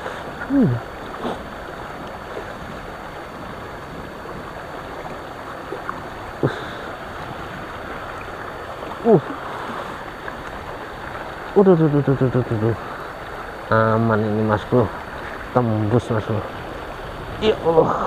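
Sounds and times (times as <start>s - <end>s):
water rushing over weir: 0.0s - 18.0s.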